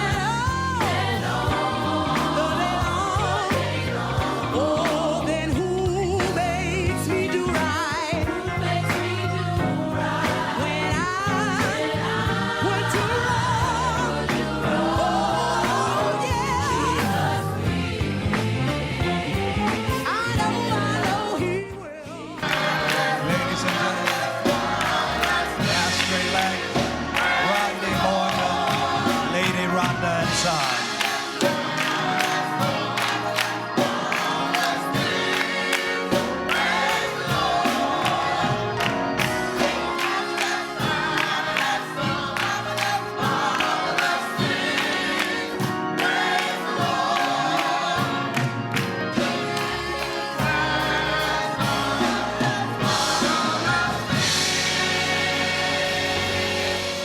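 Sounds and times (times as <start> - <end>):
band accompanying: 0.0 - 57.0
choir singing gospel music: 0.0 - 57.0.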